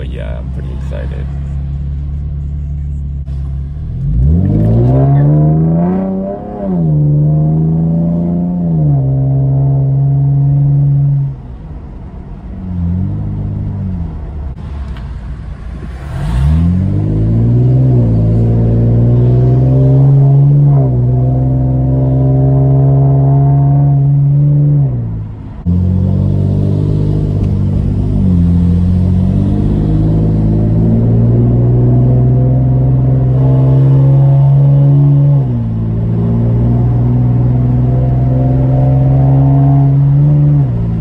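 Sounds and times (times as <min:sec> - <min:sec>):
car engine accelerating: 0:00.0 - 0:11.5, 0:12.6 - 0:41.0.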